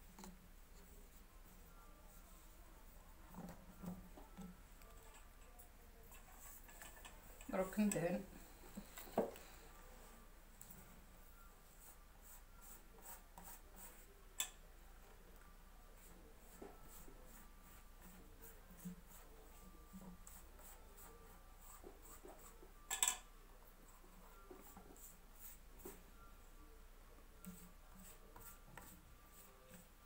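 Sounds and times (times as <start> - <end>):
soft pastry brushing strokes: 0.5 - 14.2, 14.9 - 22.8, 23.8 - 30.0.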